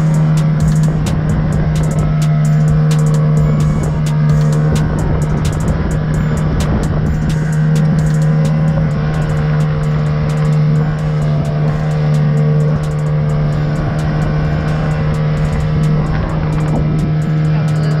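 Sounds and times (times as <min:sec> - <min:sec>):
outboard motor running: 0:00.0 - 0:18.0
rushing water: 0:00.0 - 0:18.0
wind: 0:00.0 - 0:18.0.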